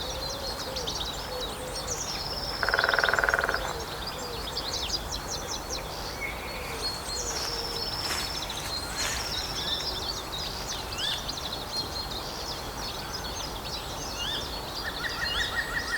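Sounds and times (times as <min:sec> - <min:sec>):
small birds singing and calling: 0:00.0 - 0:15.9.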